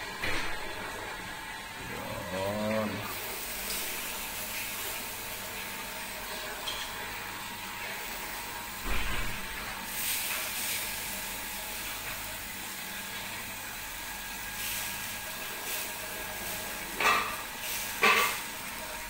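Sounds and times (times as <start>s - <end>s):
fish sizzling on grill pan: 3.1s - 19.0s.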